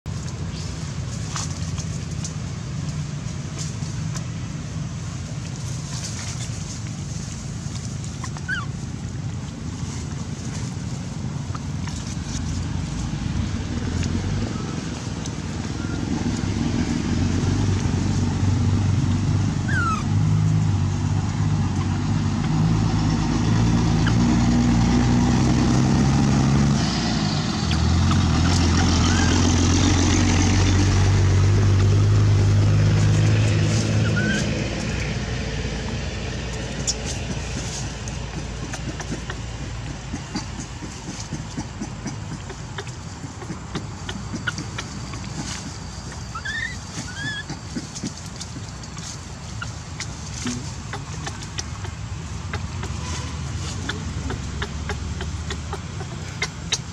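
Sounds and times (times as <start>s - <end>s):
engine humming: 0.0s - 56.9s.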